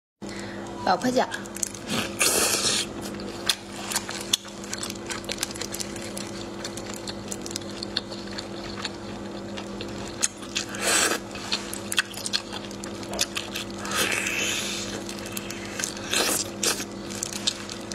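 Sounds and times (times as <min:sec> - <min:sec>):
low electrical hum: 0:00.2 - 0:17.9
close chewing and mouth sounds: 0:01.3 - 0:17.9.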